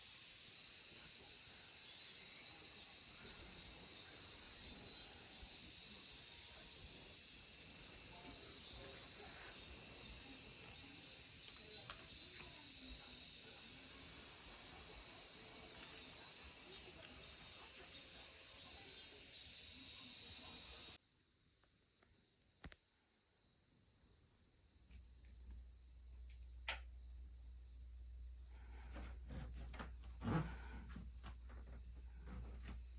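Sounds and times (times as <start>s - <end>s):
insect chorus trilling: 0.0s - 32.9s.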